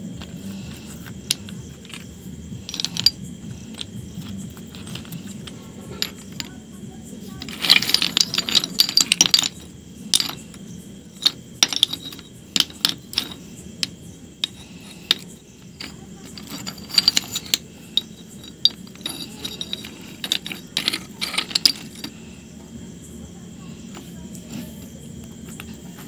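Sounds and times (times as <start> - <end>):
stone pieces clinking together: 0.1 - 22.5, 23.8 - 26.0.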